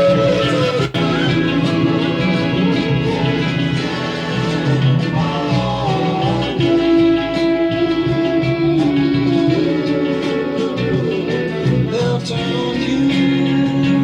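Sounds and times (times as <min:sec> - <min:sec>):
soul song playing: 0:00.0 - 0:14.0.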